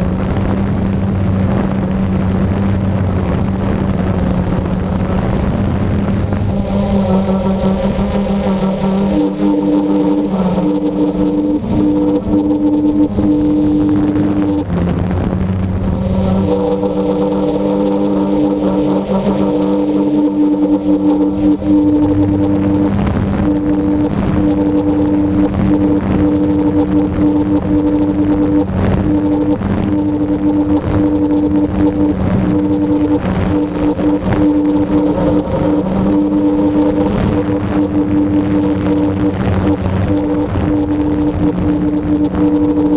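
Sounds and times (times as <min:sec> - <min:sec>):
quadcopter motors humming: 0:00.0 - 0:42.9.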